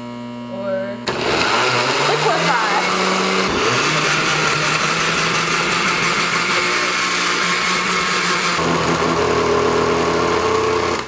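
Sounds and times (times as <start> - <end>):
blender motor whirring: 1.0 - 11.0.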